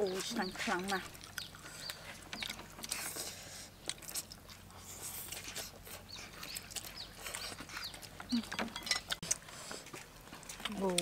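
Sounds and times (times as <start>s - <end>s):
chewing and smacking: 0.0s - 11.0s.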